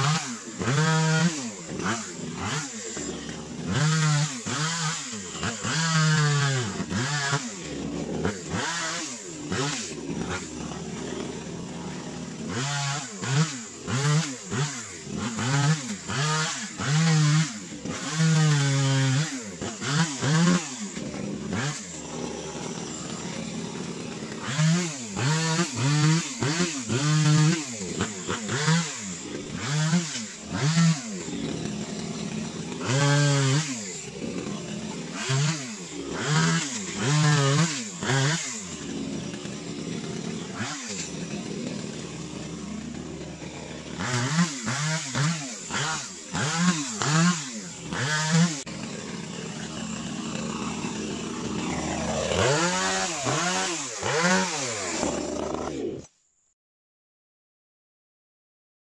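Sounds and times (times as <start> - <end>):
chainsaw revving and idling: 0.0 - 56.2.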